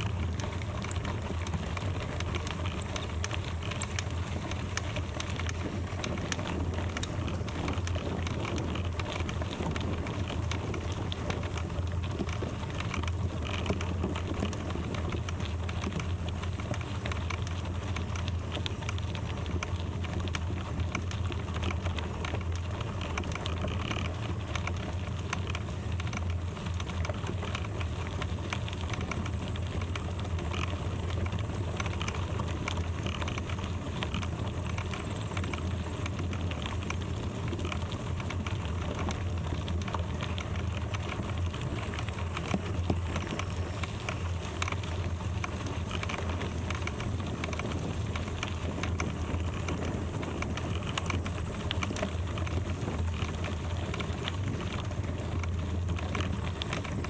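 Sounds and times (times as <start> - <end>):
bicycle tyres on gravel: 0.0 - 57.0.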